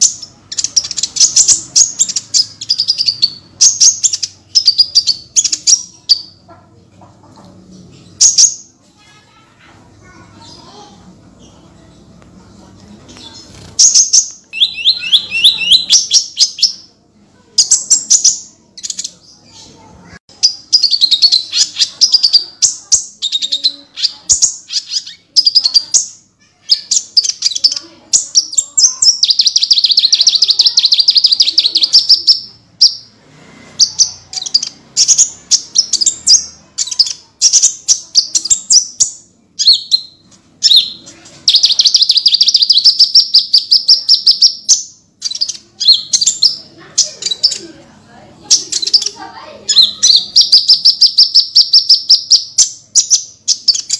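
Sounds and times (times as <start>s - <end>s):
sunbird singing rapid chirps: 0.0s - 6.4s, 13.2s - 16.9s, 17.6s - 33.1s, 33.8s - 47.7s, 48.4s - 53.9s.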